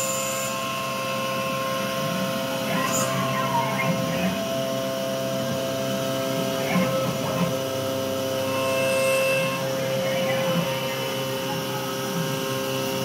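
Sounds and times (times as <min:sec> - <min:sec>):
mill cutting steel high tone: 0:00.0 - 0:13.0.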